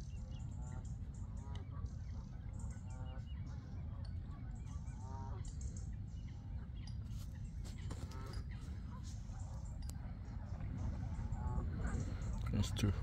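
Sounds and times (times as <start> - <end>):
waterfowl calling: 0.5 - 5.9, 7.8 - 13.0.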